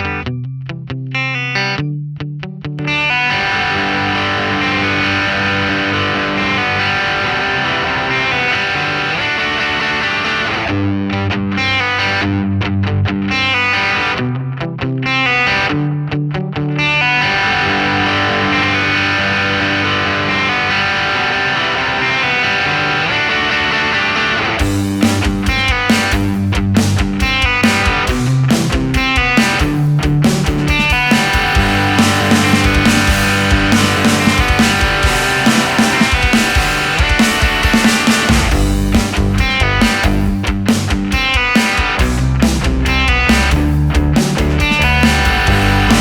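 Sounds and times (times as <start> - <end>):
distorted electric guitar: 0.0 - 46.0.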